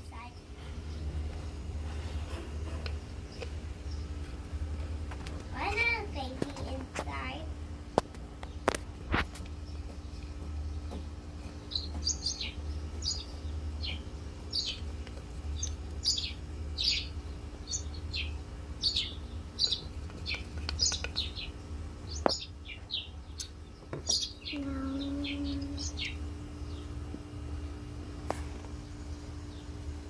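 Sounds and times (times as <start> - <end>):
low hum: 0.0 - 30.0
songbirds chirping: 0.0 - 30.0.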